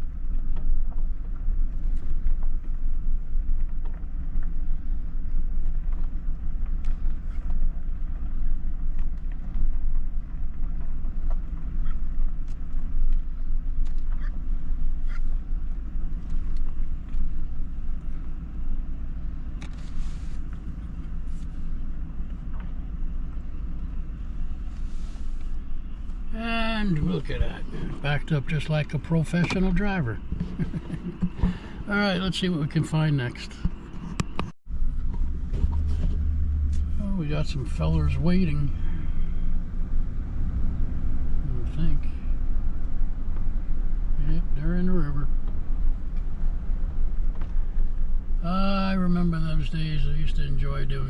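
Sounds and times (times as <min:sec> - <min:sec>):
vehicle engine and road noise: 0:00.0 - 0:51.0.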